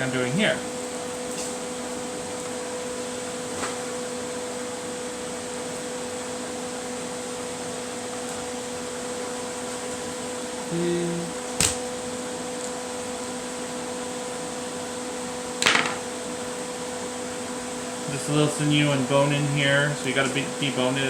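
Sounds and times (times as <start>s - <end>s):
fan humming with hiss: 0.0s - 21.0s.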